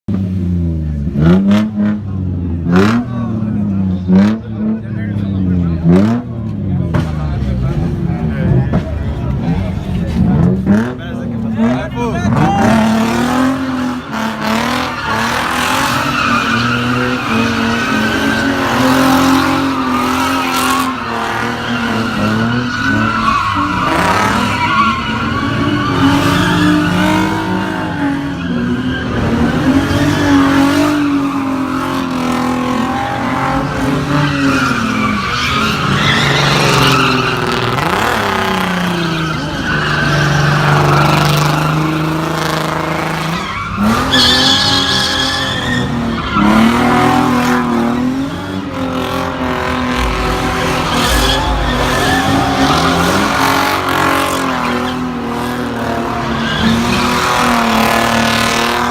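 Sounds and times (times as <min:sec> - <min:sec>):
car engine revving: 0:00.2 - 0:58.9
tyres squealing and skidding: 0:02.7 - 0:58.9.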